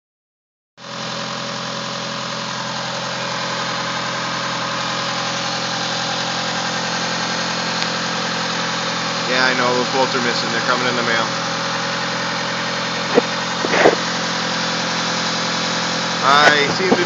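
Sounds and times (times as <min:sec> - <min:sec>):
car engine idling: 0:00.8 - 0:17.0.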